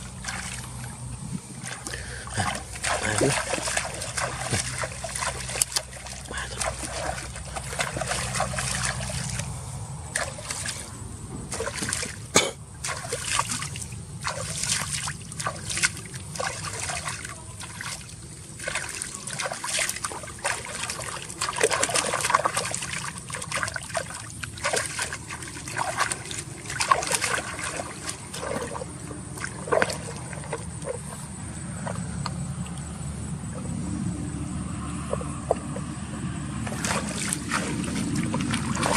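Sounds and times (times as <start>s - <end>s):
water splashing and trickling: 0.0s - 38.9s.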